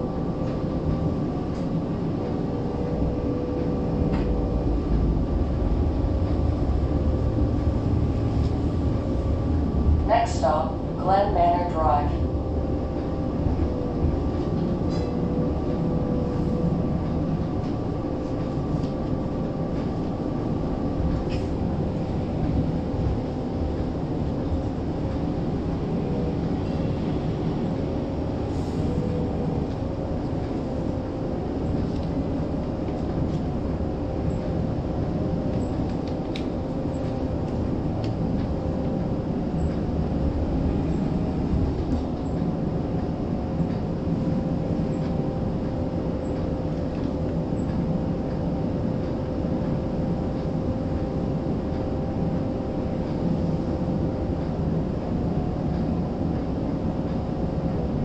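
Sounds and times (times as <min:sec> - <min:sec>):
streetcar wheels rumbling on rails: 0:00.0 - 0:58.0.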